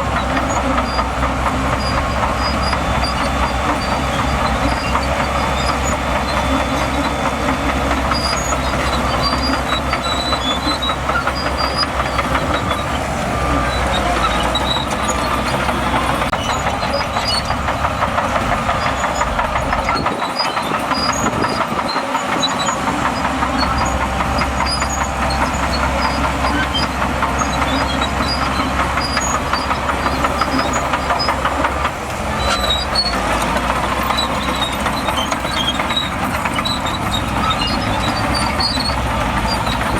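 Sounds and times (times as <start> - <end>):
bulldozer diesel engine rumble: 0.0 - 39.9
steel tracks clanking: 0.0 - 39.9.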